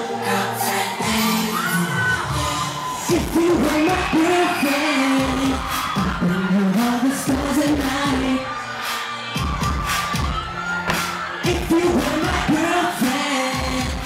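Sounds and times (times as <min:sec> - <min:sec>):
person singing: 0:00.0 - 0:09.8, 0:11.0 - 0:14.0
punchy pop beat: 0:00.0 - 0:14.0.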